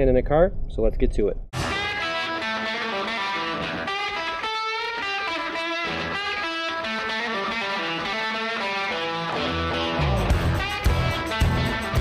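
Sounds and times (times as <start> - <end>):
distorted electric guitar: 1.6 - 12.0.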